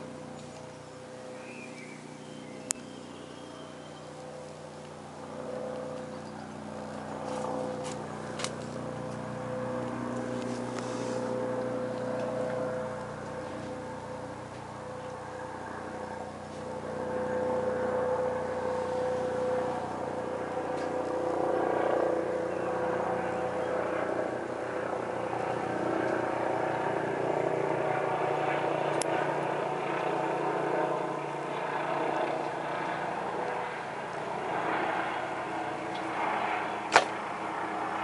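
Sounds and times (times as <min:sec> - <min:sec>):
helicopter flying overhead: 0:00.0 - 0:38.0.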